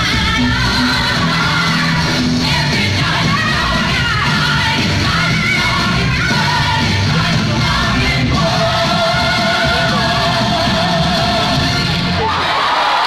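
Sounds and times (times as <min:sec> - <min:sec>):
loud live music with singing: 0:00.0 - 0:13.0.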